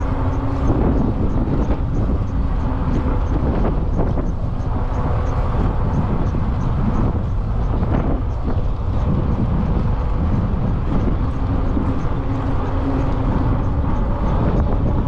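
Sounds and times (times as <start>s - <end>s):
road and tyre rumble: 0.0s - 15.0s
wind buffeting microphone: 0.0s - 15.0s.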